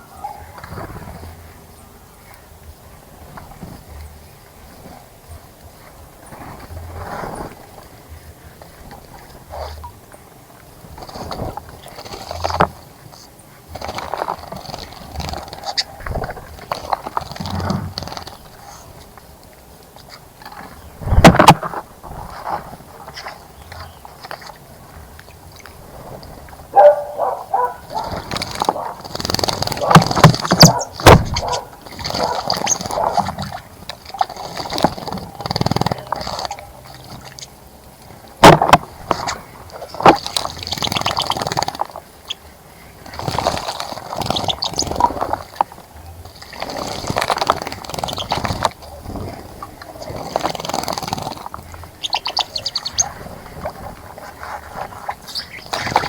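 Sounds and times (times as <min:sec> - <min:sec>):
birds splashing in water: 0:00.0 - 0:56.0.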